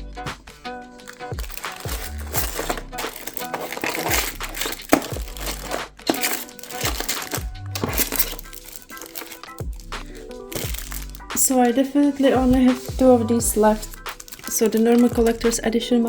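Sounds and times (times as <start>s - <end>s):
background music with steady beat: 0.0s - 16.0s
crinkling and rustling of small items: 0.5s - 16.0s.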